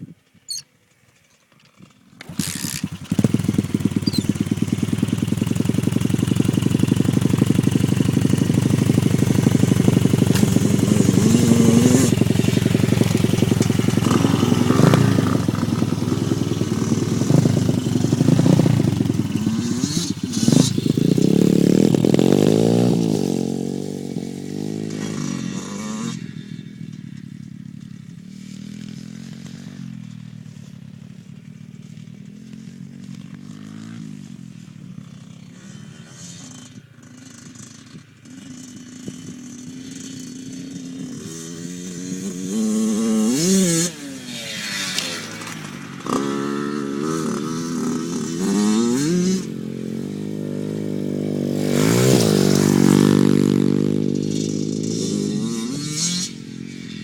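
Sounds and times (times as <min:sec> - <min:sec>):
dirt bike engine revving: 0:02.0 - 0:30.4, 0:31.8 - 0:57.0.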